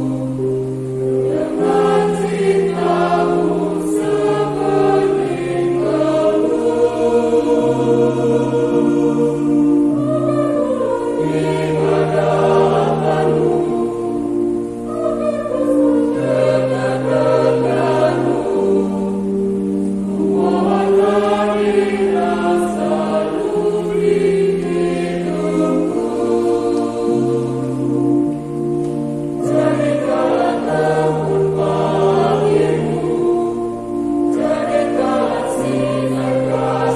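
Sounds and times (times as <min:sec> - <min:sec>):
choir singing a hymn: 0:00.0 - 0:36.9.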